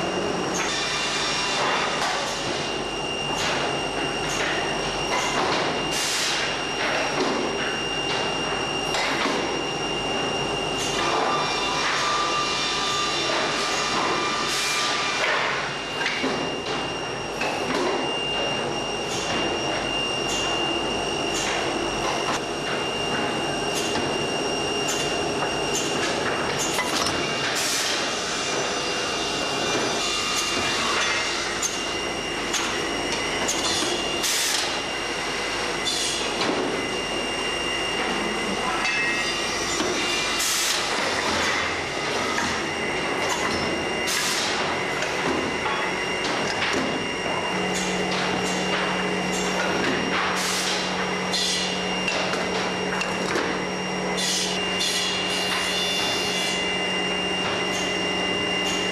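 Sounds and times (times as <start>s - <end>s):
high-pitched machine whine: 0.0s - 58.9s.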